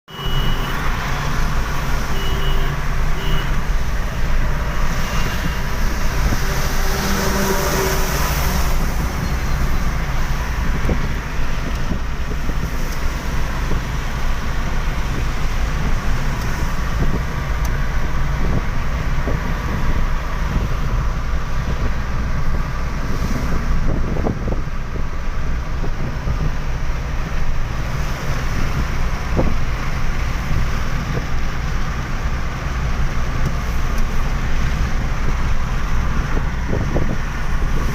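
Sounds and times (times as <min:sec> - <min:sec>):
vehicle engine rumble: 0:00.0 - 0:37.9
continuous road hiss: 0:00.1 - 0:37.9.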